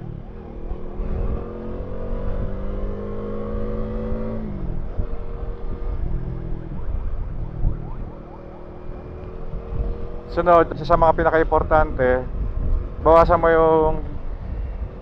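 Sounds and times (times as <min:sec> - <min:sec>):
motorcycle engine revving: 0:00.0 - 0:13.0
wind noise rumble: 0:00.0 - 0:15.0.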